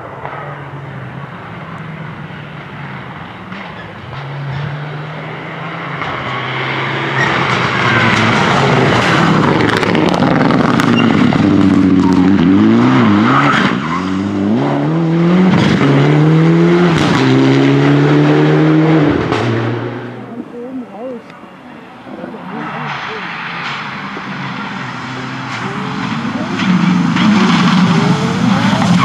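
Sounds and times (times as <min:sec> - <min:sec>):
rally car engine revving: 0:00.0 - 0:21.2, 0:21.8 - 0:29.0.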